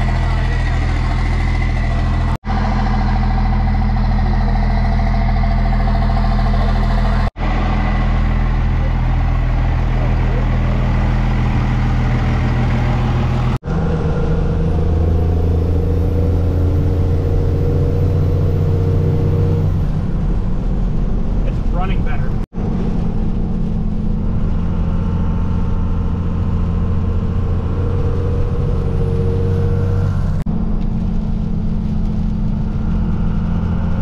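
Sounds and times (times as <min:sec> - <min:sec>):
faint high turbo whine: 0:00.0 - 0:34.0
truck engine running: 0:00.0 - 0:34.0.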